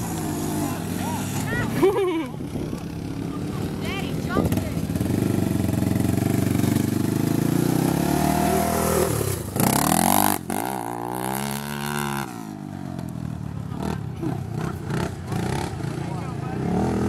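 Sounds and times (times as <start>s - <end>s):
quad engine revving past: 0.0s - 17.0s.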